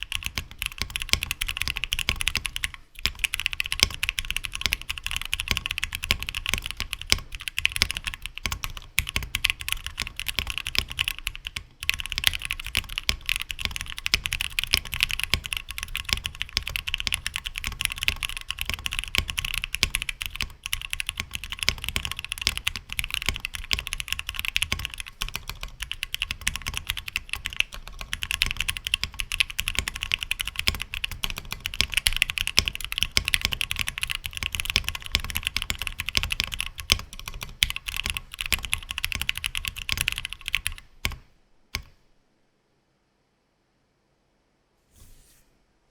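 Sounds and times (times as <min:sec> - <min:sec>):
fast typing on mechanical keyboard: 0:00.0 - 0:41.2.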